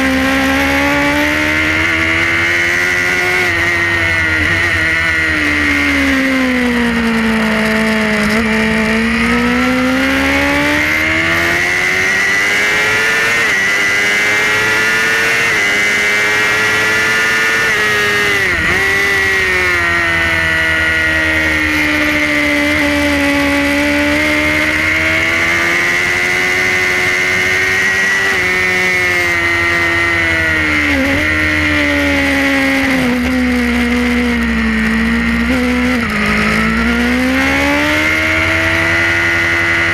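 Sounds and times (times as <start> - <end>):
motorcycle engine at racing speed: 0.0 - 39.9.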